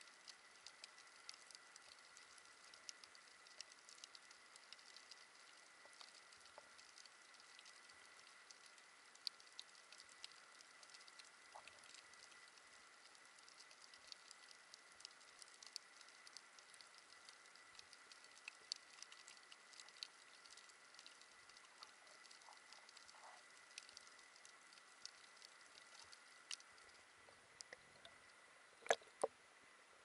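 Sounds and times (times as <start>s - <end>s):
snapping shrimp clicks underwater: 0.0s - 27.0s, 27.6s - 29.3s.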